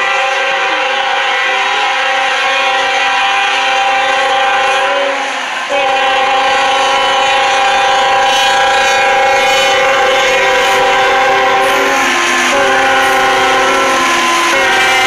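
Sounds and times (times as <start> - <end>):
locomotive air horn blasts: 0.0 - 15.0.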